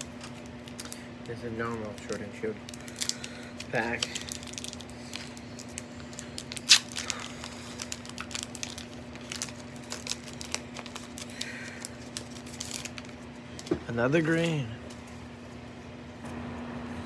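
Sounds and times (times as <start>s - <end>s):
foil wrapper crinkling and tearing: 0.0s - 15.2s.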